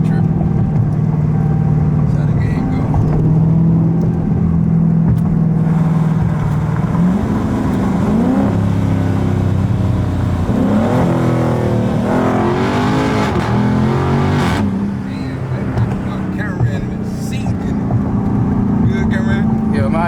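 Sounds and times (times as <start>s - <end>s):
loud car engine revving: 0.0s - 20.0s.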